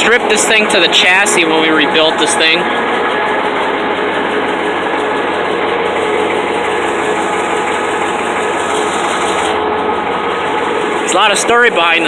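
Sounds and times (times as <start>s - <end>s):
loader engine running steadily: 0.0s - 12.0s.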